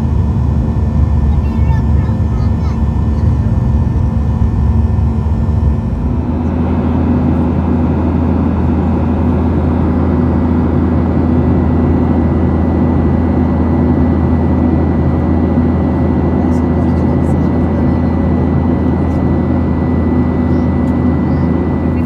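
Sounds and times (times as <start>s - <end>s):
jet engines in flight: 0.0s - 22.0s
low hum: 0.0s - 22.0s.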